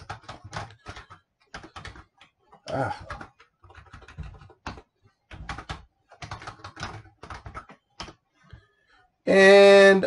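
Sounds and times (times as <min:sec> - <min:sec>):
computer keyboard typing: 0:00.0 - 0:08.8.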